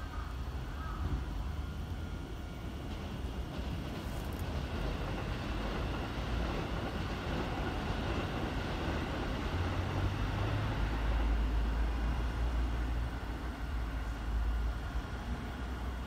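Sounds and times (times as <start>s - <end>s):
electric train hum and hiss: 0.0s - 16.0s.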